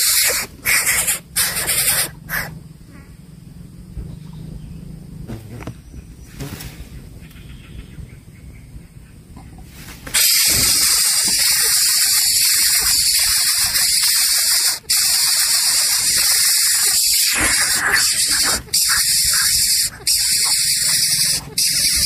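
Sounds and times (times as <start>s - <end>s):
loud steady hissing: 0.0s - 7.3s, 9.8s - 22.0s.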